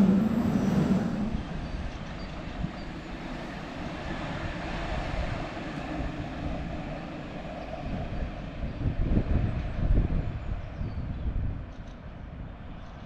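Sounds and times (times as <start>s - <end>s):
light rail train rolling: 0.0s - 13.0s.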